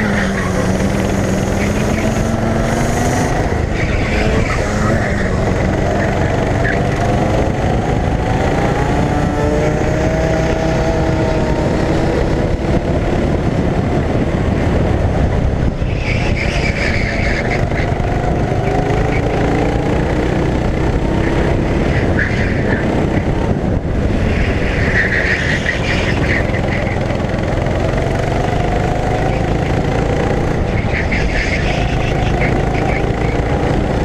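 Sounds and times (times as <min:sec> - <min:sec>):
go-kart engine revving: 0:00.0 - 0:34.0
heavy rumble: 0:00.0 - 0:34.0
higher rougher engine sound: 0:00.0 - 0:34.0.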